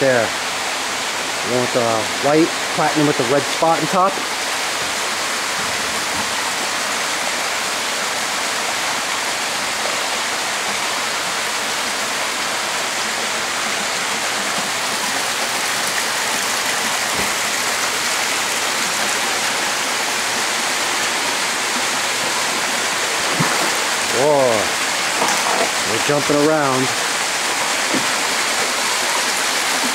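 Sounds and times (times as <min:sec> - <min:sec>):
running water churning into pool: 0:00.0 - 0:29.9.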